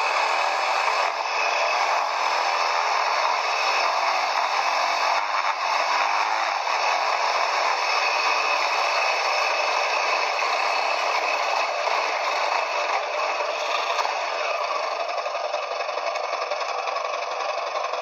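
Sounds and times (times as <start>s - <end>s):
quad bike rushing and rattling: 0.0s - 18.0s.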